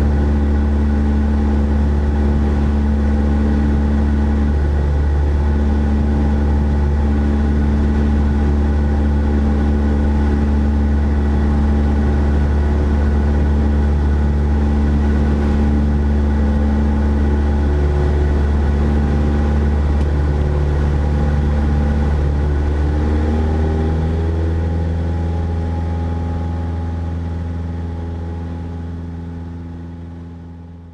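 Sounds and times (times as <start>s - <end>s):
light aircraft engine droning: 0.0s - 30.9s.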